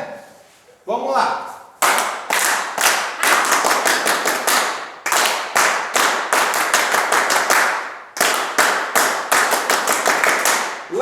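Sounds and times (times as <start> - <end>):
group clapping sharp claps: 1.8 - 10.9.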